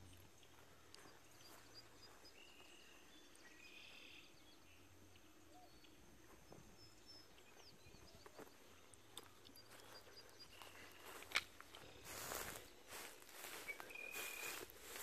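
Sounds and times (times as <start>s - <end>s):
faint distant bird chirps: 0.0s - 15.0s.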